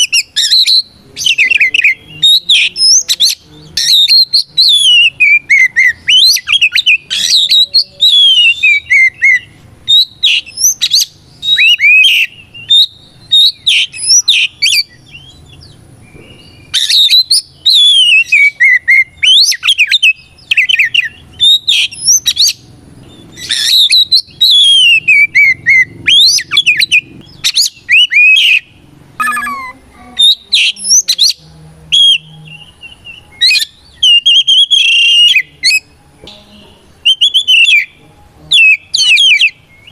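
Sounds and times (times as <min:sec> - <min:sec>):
bird singing varied whistles: 0:00.0 - 0:15.6, 0:16.3 - 0:22.6, 0:23.3 - 0:39.9.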